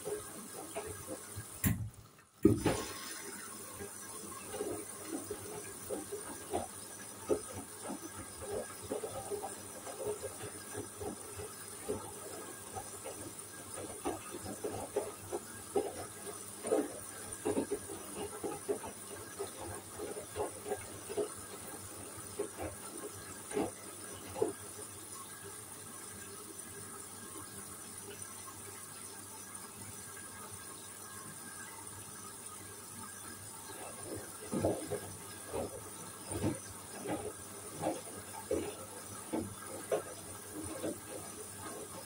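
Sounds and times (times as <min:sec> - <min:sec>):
washing machine laundry sloshing: 0:00.0 - 0:28.8, 0:32.8 - 0:42.0.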